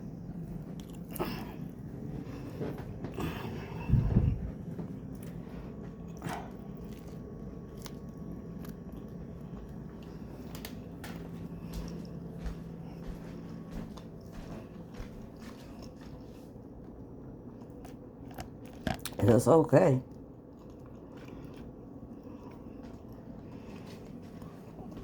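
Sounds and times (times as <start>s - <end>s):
person chewing a sandwich: 0.0s - 19.2s, 20.1s - 25.0s
low steady hum: 0.0s - 25.0s.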